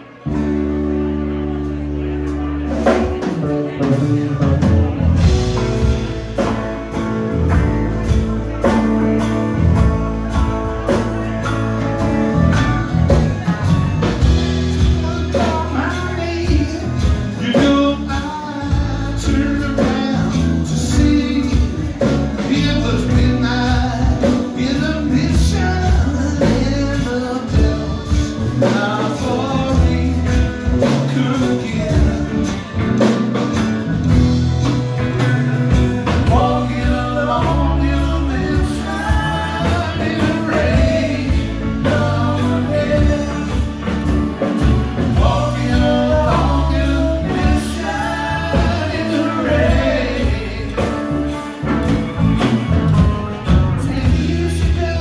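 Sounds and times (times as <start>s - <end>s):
live rock band playing: 0.0s - 55.0s
man singing: 2.0s - 55.0s.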